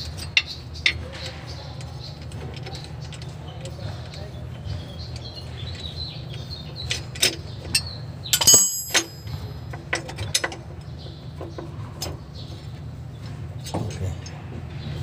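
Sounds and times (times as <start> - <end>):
tools clanking on metal: 0.0 - 12.2.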